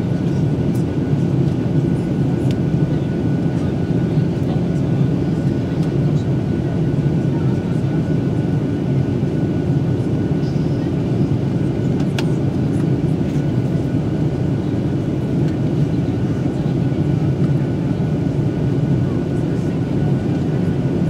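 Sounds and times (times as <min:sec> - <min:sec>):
airplane engine and airflow noise: 0:00.0 - 0:21.0.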